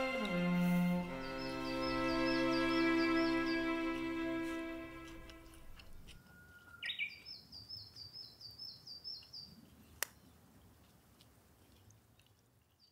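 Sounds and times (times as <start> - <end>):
small bird singing: 0.0 - 10.4.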